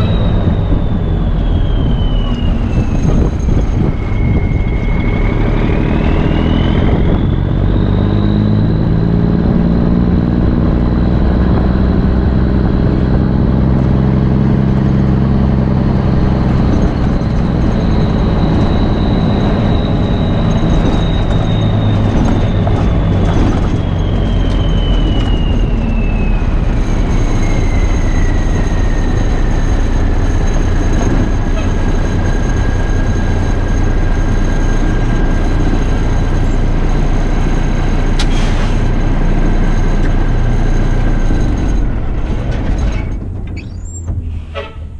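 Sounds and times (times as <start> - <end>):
diesel truck engine running hard: 0.0 - 44.9
high engine whine: 0.0 - 44.9.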